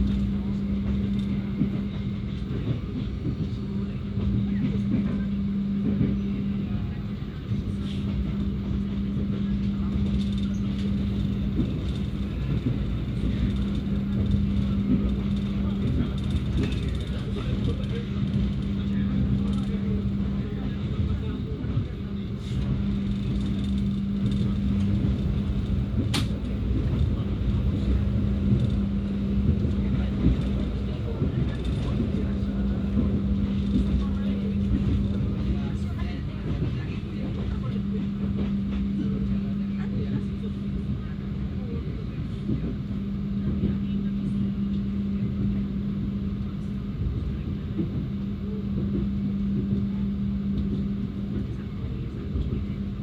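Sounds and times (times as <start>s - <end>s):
train rumbling: 0.0s - 53.0s.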